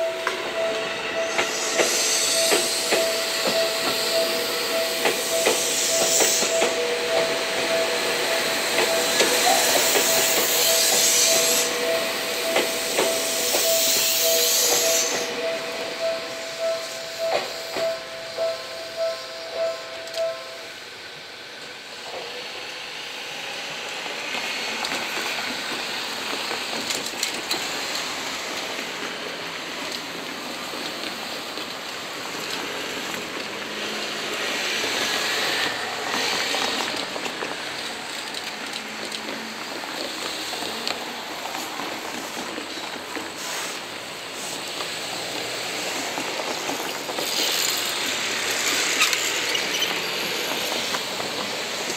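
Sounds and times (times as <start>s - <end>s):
street traffic: 0.0s - 51.9s
train wheels on rails: 0.0s - 51.9s.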